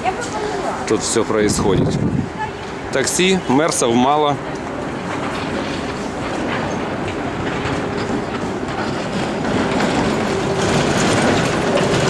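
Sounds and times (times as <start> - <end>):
tram hum: 0.0 - 12.0
tram wheels clacking on rails: 0.0 - 12.0.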